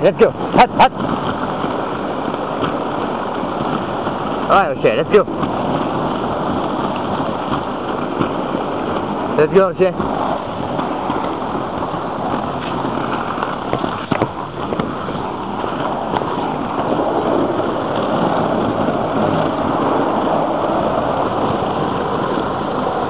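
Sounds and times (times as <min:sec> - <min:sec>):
wheels rolling on wet pavement: 0:00.0 - 0:23.0
wind on microphone: 0:00.0 - 0:23.0.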